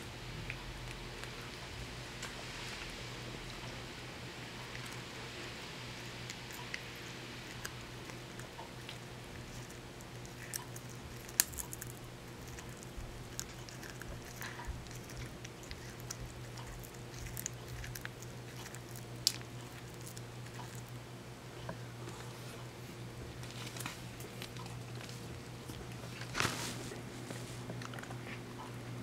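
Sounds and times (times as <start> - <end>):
cat crunching a treat: 0.3 - 3.4, 4.2 - 21.0, 23.2 - 26.6, 27.3 - 28.4.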